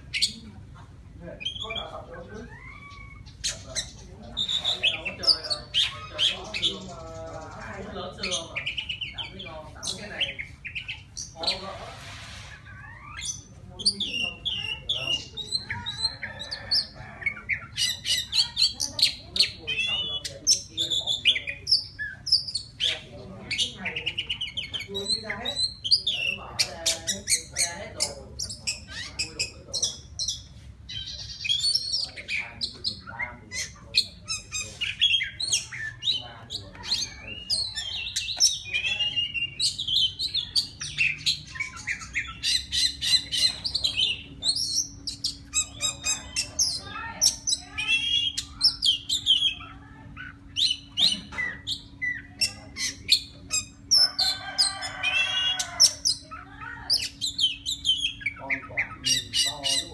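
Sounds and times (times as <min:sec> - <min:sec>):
bird singing varied song: 0:00.0 - 0:59.9.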